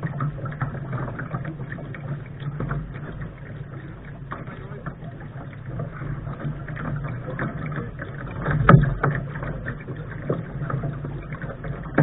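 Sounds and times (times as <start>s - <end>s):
water slapping against boat bow: 0.0s - 12.0s.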